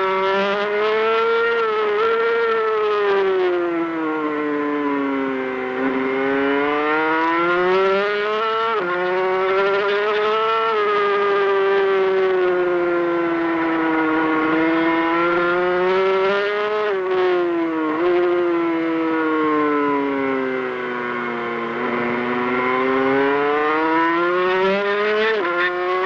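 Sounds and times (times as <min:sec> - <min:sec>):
racing motorcycle engine: 0:00.0 - 0:26.0.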